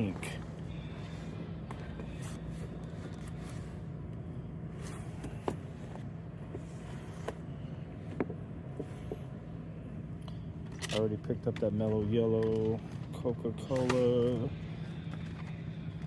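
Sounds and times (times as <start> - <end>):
store background hum: 0.0 - 16.0.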